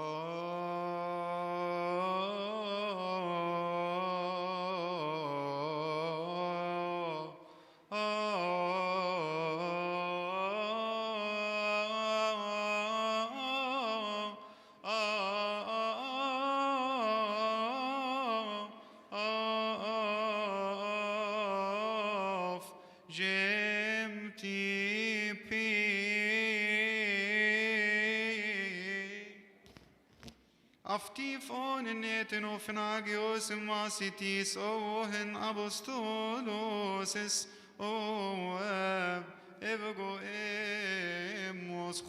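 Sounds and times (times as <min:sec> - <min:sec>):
man singing a chant: 0:00.0 - 0:29.5, 0:30.9 - 0:42.0.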